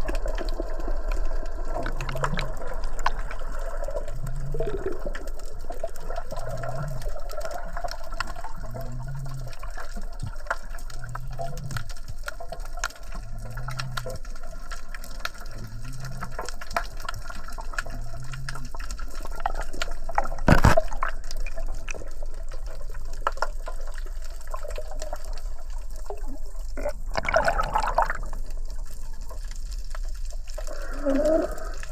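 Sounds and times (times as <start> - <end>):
sea water sloshing and gushing: 0.0 - 31.9.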